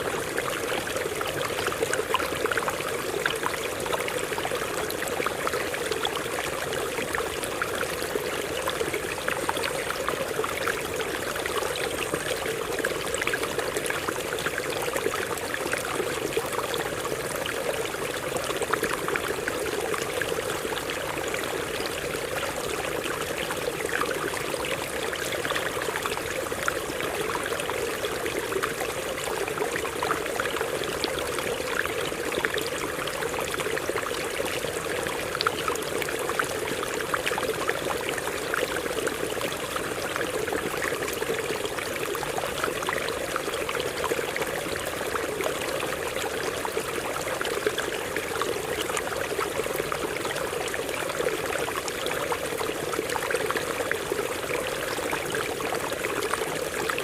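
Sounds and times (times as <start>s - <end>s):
stream water over rocks: 0.0s - 57.0s.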